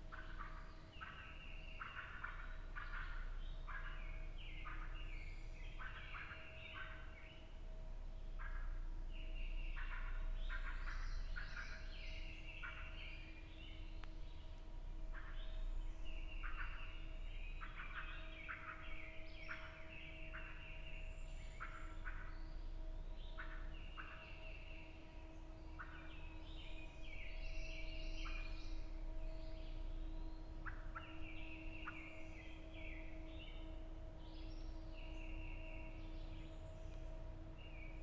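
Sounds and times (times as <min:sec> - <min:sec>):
faint steady hum: 0:00.0 - 0:38.0
songbirds calling: 0:00.0 - 0:38.0.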